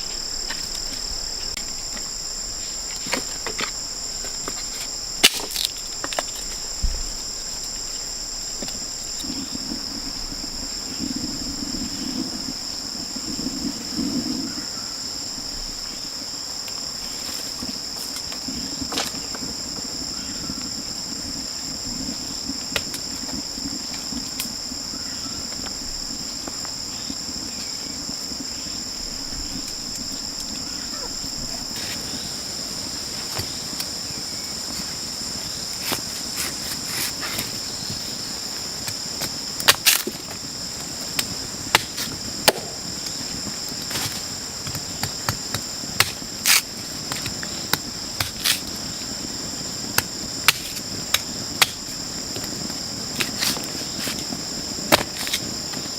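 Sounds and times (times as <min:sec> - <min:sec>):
insects chorus: 0:00.0 - 0:55.9.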